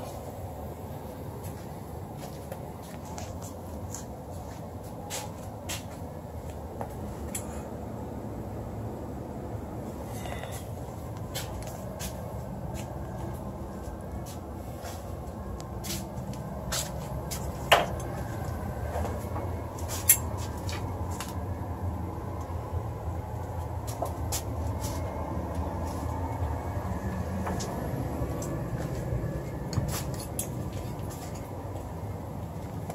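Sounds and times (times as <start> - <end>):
furnace blower hum: 0.0 - 32.9.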